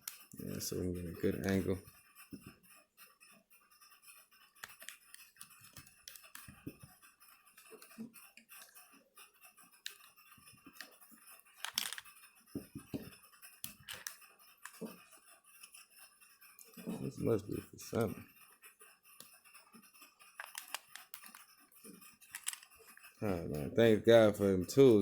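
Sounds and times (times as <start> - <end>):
small tools clicking and scraping: 0.0 - 2.7, 4.0 - 25.0.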